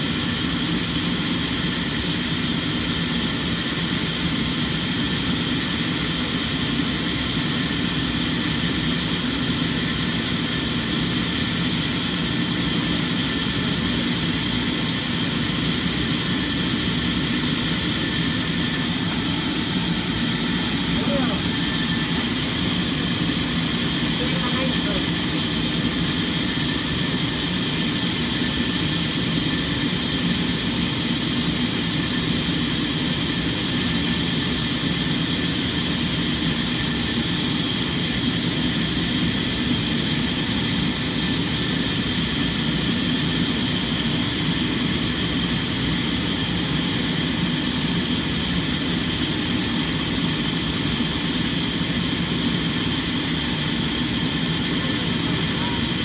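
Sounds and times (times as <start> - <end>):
high machinery whine: 0.0 - 56.0
sawmill machinery drone: 0.0 - 56.0.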